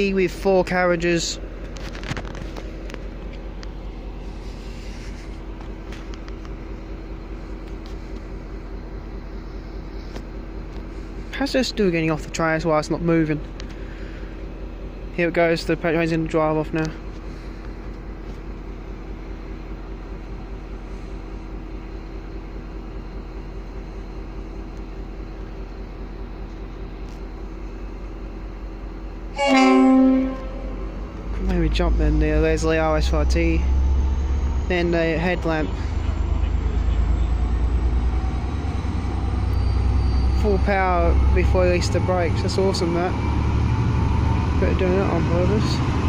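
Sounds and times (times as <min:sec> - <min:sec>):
diesel locomotive engine idling: 0:00.0 - 0:46.0.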